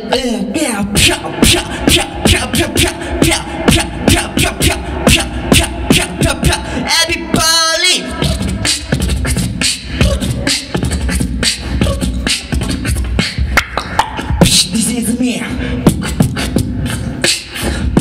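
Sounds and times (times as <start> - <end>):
beatboxing into microphone: 0.0 - 18.0.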